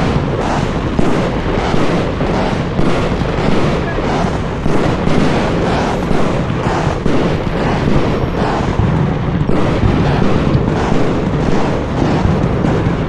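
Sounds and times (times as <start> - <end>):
fireworks bangs and crackle: 0.0 - 13.0.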